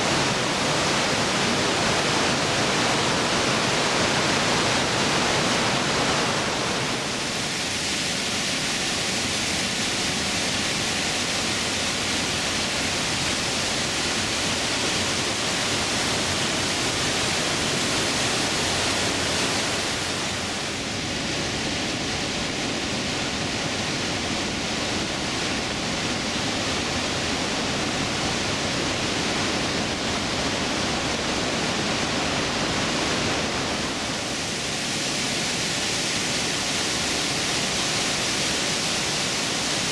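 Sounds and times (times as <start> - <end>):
waterfall rushing through gorge: 0.0 - 39.9.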